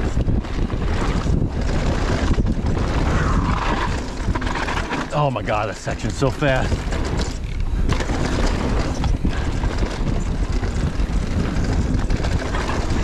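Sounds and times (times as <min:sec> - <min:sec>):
bike rattling over bumps: 0:00.0 - 0:13.0
tyres rumbling over dirt: 0:00.0 - 0:13.0
wind buffeting microphone: 0:00.0 - 0:13.0.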